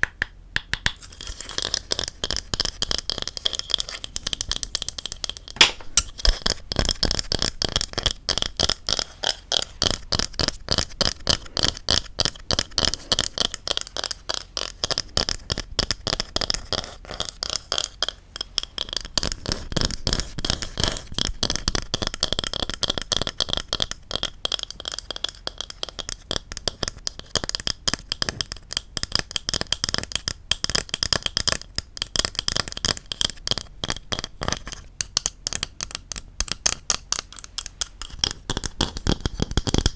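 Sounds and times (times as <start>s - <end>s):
rapid tapping on wood: 1.6s - 39.9s.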